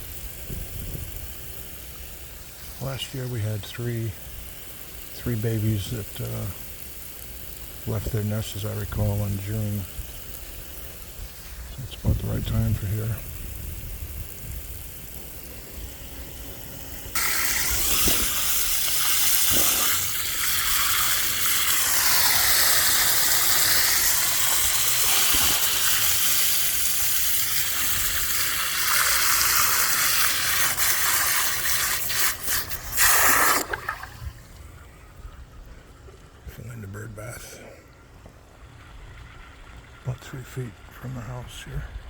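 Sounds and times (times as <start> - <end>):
hose water rushing hiss: 0.0 - 42.0.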